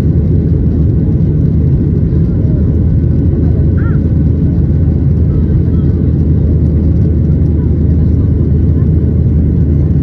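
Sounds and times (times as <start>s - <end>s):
airplane cabin engine drone: 0.0s - 10.0s.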